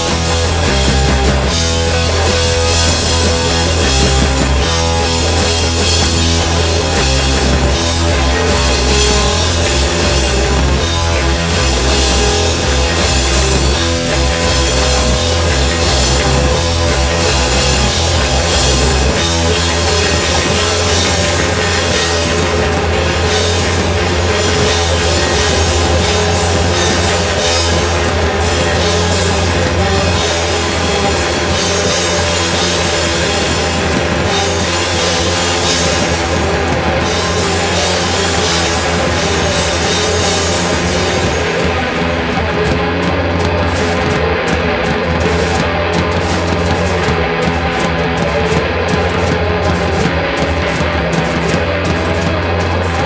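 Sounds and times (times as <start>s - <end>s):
rock band playing distorted music: 0.0s - 53.0s.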